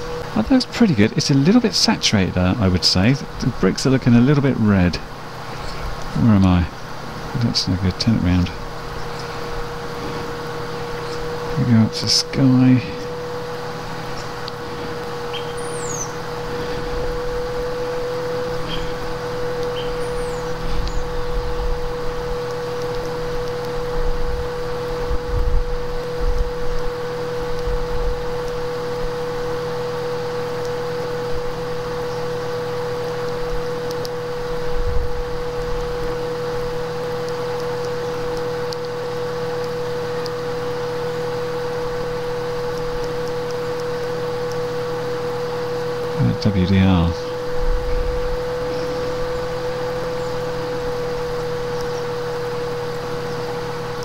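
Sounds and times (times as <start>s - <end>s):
low hum: 0.0s - 54.0s
steady electronic whine: 0.0s - 54.0s.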